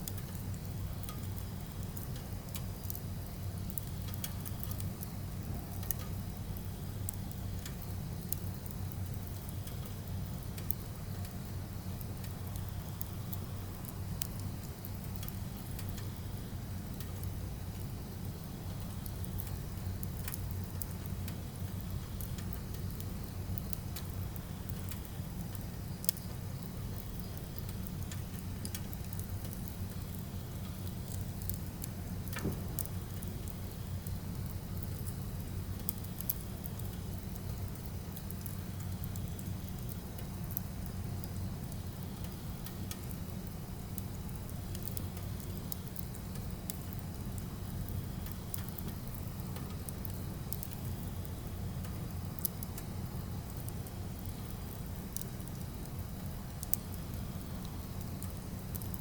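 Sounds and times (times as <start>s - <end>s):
fire crackling and popping: 0.0s - 59.0s
firewood burning: 0.0s - 59.0s.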